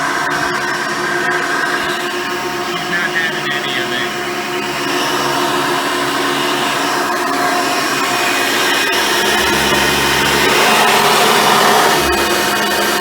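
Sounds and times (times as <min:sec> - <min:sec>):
vacuum cleaner running: 0:00.2 - 0:13.0.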